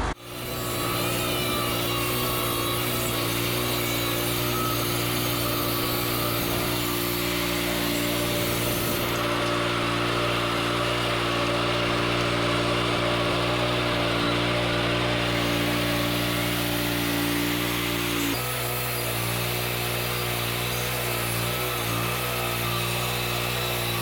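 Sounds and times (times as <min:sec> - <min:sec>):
band blade sawing through log: 0:00.0 - 0:24.0
sawmill engine humming: 0:00.0 - 0:24.0.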